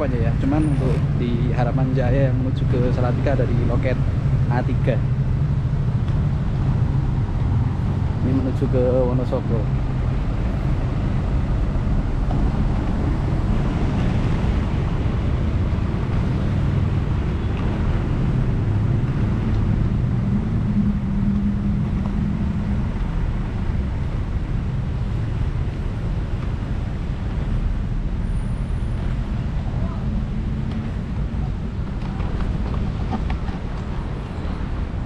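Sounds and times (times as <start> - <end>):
diesel engine low rumble: 0.0 - 35.0.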